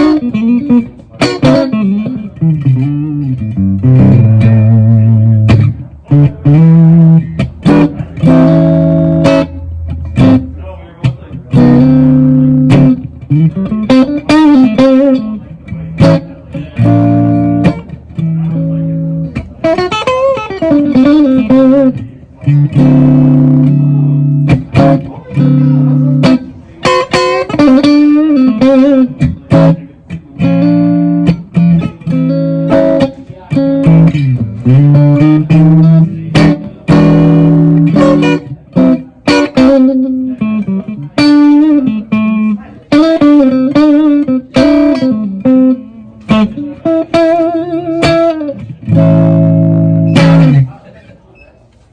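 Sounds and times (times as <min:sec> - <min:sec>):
electric guitar playing: 0:00.0 - 0:50.8.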